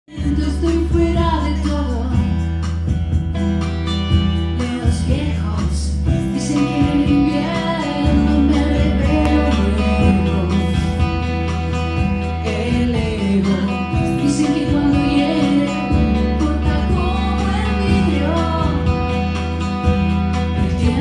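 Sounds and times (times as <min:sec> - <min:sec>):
bass line: 0:00.0 - 0:21.0
live band guitar: 0:00.1 - 0:21.0.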